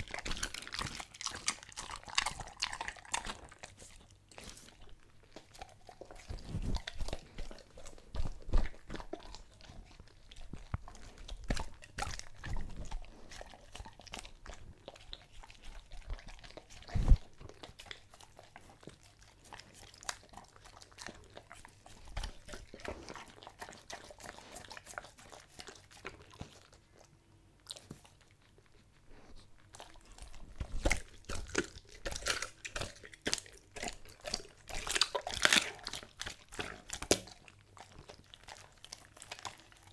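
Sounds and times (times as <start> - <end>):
dog chewing and crunching bone: 0.0 - 39.9.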